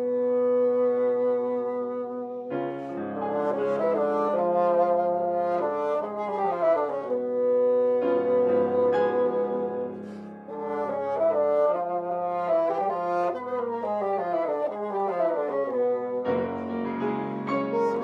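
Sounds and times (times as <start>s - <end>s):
bassoons playing: 0.0s - 16.6s
piano accompaniment: 0.0s - 18.0s.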